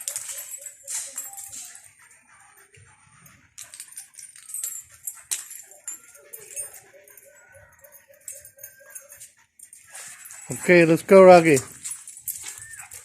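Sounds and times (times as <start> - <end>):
dog whining: 0.0 - 10.6, 11.8 - 13.0.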